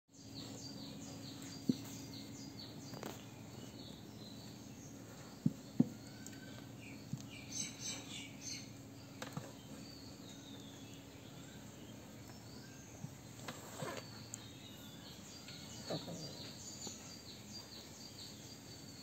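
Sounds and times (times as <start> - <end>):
birds chirping: 0.1 - 19.0
steady low hum: 0.2 - 19.0.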